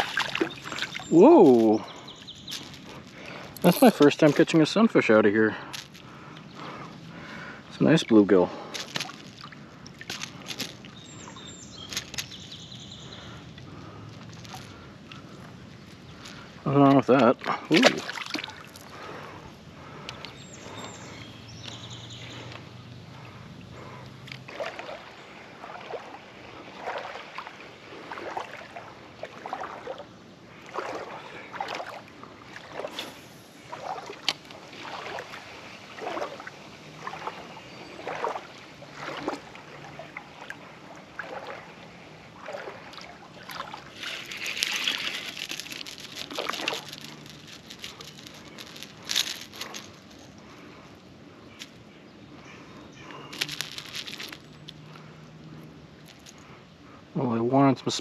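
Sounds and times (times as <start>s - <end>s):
short water splashes: 0.0s - 15.4s, 16.1s - 50.8s
river water trickling: 0.0s - 58.0s.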